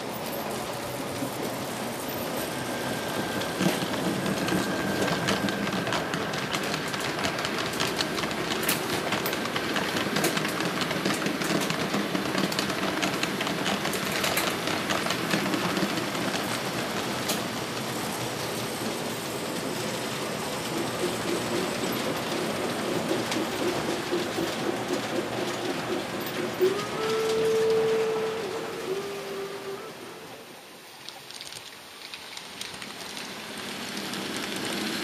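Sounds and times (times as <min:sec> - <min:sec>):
wheels clicking over rail joints: 0:00.0 - 0:29.9, 0:31.1 - 0:35.0
model trains rolling rumble: 0:00.0 - 0:31.4, 0:32.1 - 0:35.0.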